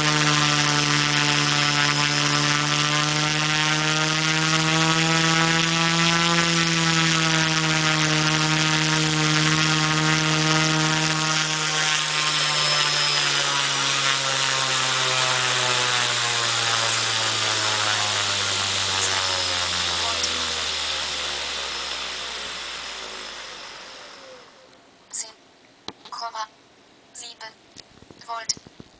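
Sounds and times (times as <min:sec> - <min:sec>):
drone propellers buzzing: 0:00.0 - 0:25.3.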